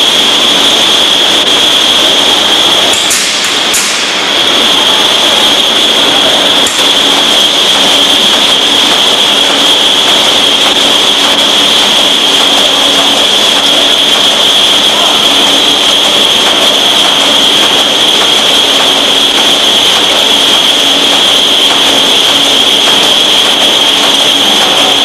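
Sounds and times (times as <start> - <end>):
machinery hiss and whine: 0.0 - 25.0.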